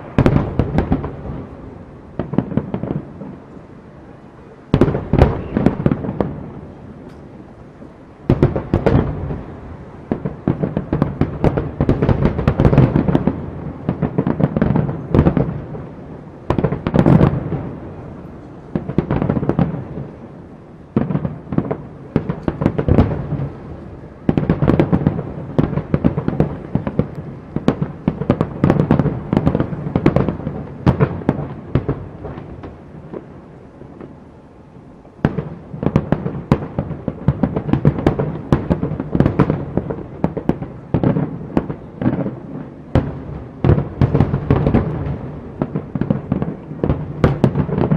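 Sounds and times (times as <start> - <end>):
firework crackling pops: 0.0 - 3.7, 4.7 - 47.9.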